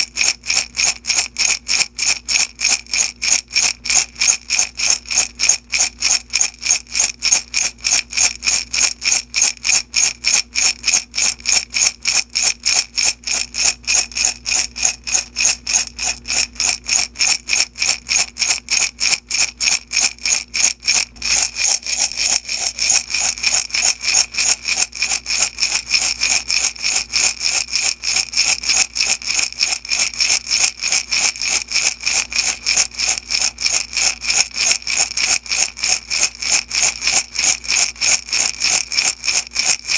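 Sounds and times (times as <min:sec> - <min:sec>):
beads rattling in glass jar: 0:00.0 - 0:39.9.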